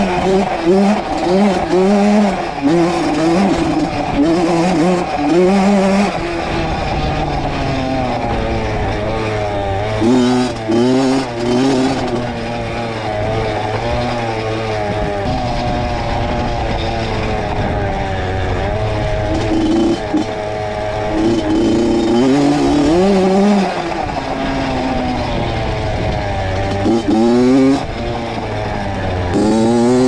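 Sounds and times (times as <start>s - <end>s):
two-stroke dirt bike engine: 0.0s - 30.0s.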